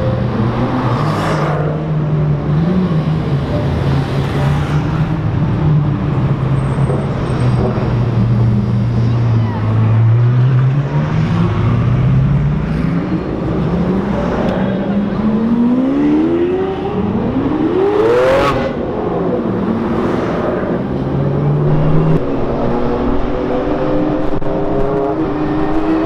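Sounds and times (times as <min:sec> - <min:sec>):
sports car engines accelerating: 0:00.0 - 0:26.0.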